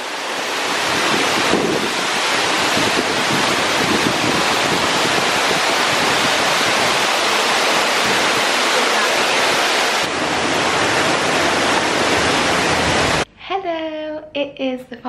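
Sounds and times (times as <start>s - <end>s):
waterfall rushing in a cave: 0.0s - 13.3s.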